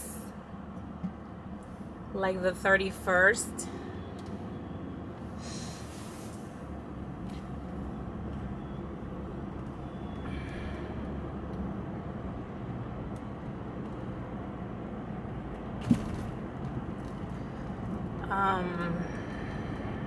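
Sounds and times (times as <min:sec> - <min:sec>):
road and engine noise in car: 0:00.0 - 0:20.0.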